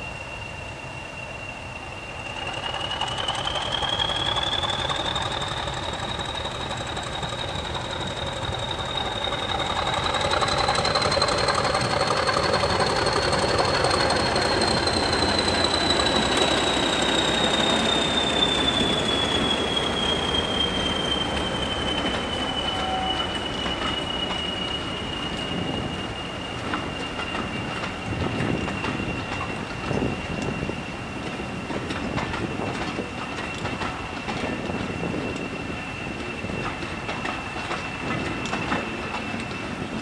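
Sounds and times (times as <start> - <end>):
diesel locomotive engine rumble: 0.0 - 40.0
train wheels on rails: 0.0 - 40.0.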